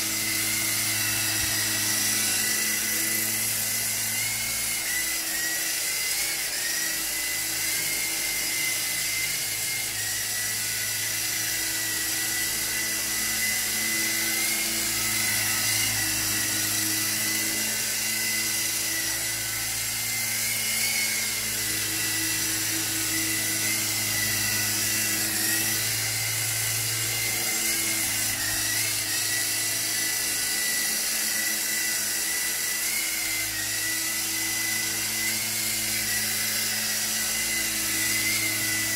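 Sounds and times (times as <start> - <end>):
electric motor whine: 0.0 - 38.9
low rotor hum: 0.0 - 38.9.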